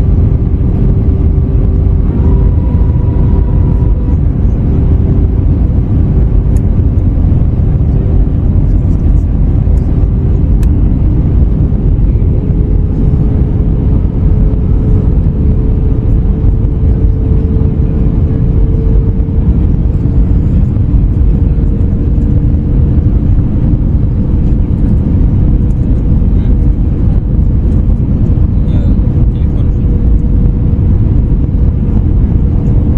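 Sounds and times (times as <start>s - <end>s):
airliner engine and airflow rumble: 0.0s - 32.9s
faint steady hum: 0.0s - 32.9s.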